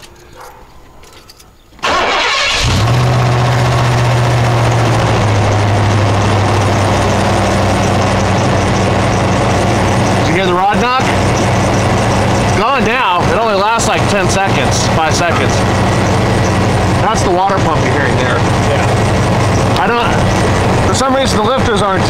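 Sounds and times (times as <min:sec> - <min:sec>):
engine cranking: 0:00.0 - 0:22.0
engine idling with knock: 0:03.2 - 0:22.0.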